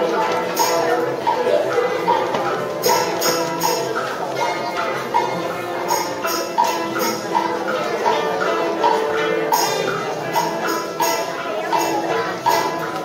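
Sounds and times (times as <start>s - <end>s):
jingling bells: 0.0s - 13.0s
plucked zither melody: 0.0s - 13.0s.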